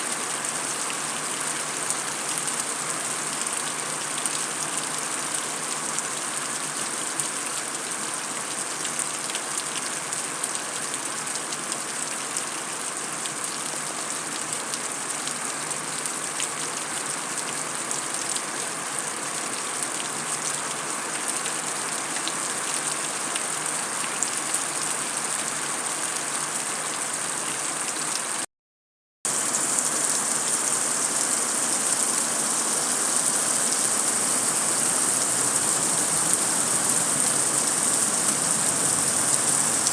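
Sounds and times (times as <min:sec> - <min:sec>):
heavy rain on concrete: 0:00.0 - 0:28.5, 0:29.3 - 0:39.9.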